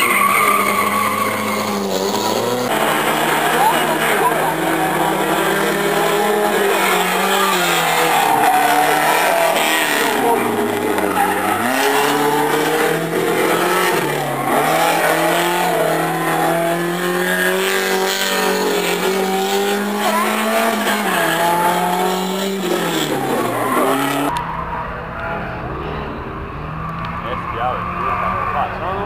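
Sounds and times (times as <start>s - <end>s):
car engine revving high: 0.0s - 24.4s.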